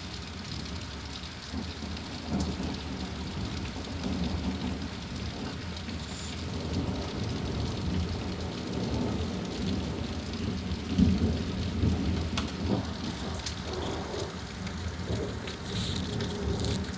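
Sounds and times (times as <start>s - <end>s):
steady rain: 0.0s - 16.9s
rumble of thunder: 1.5s - 16.9s.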